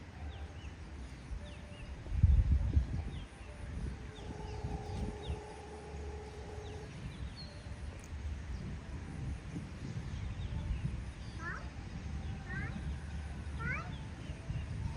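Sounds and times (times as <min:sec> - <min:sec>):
birds chirping: 0:00.0 - 0:14.9
steady humming tone: 0:00.0 - 0:14.9
steady low rumble: 0:00.0 - 0:14.9.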